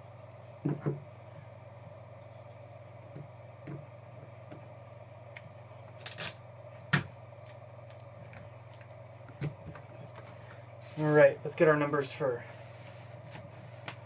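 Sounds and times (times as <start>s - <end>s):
steady room hum: 0.0s - 14.0s.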